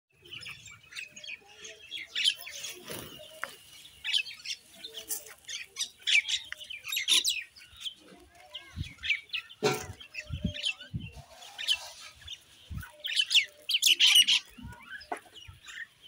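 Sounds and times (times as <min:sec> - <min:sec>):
flock of birds chirping: 0:00.1 - 0:16.0.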